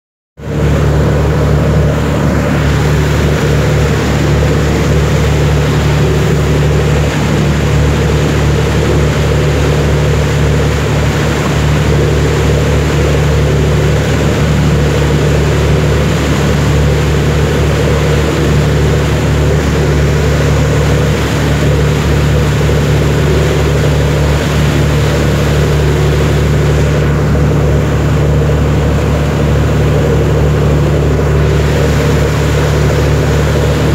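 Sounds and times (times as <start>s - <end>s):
boat engine humming: 0.4s - 33.9s
rush of wind and water: 0.4s - 33.9s.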